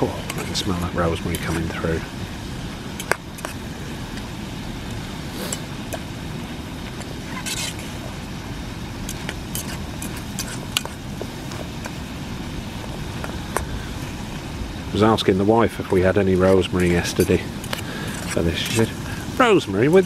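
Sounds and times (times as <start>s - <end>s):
low rumble: 0.0s - 19.4s.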